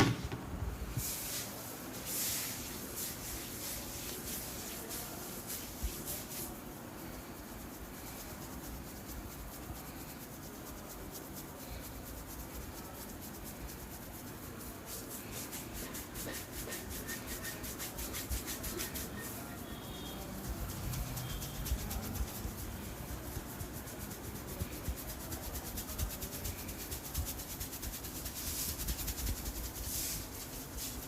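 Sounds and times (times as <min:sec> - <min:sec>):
oiled hands rubbing skin: 0:01.0 - 0:31.0.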